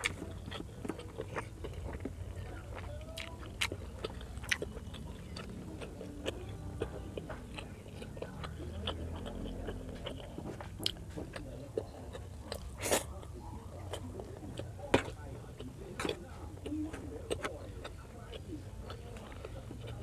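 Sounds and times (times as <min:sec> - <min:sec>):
wet chewing with mouth clicks: 0:00.0 - 0:20.0.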